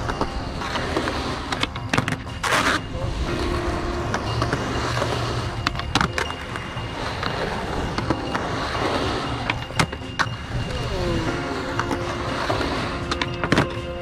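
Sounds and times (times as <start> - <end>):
skateboard clacks: 0.0 - 10.8, 11.4 - 14.0
skateboard wheels rolling on concrete: 0.0 - 14.0.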